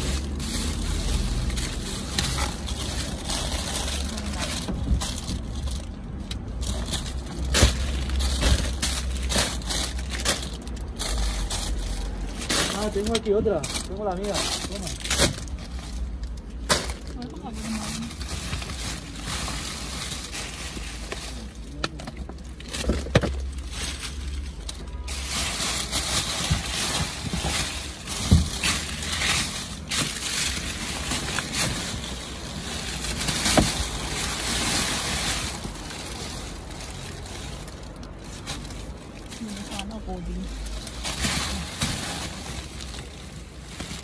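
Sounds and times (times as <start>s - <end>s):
plastic bags rustling and crinkling: 0.0s - 44.0s.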